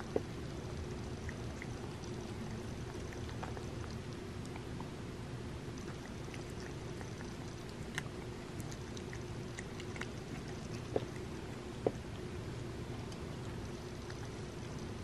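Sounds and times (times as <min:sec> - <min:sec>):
cat licking and chewing: 0:00.0 - 0:05.0, 0:05.6 - 0:15.0
low hum: 0:00.0 - 0:15.0.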